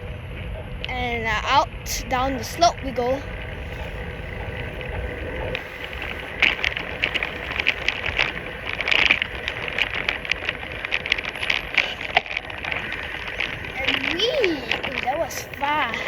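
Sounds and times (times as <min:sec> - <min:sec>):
bicycle rushing downhill: 0:00.0 - 0:16.0.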